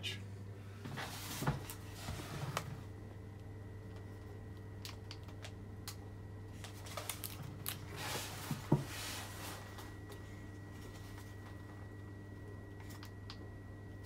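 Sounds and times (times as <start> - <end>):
gas boiler humming: 0.0 - 14.0.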